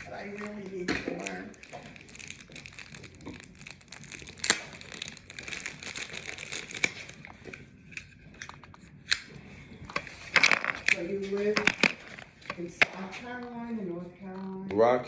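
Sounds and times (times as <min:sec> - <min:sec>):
packaging crinkling and rustling: 0:00.0 - 0:13.7.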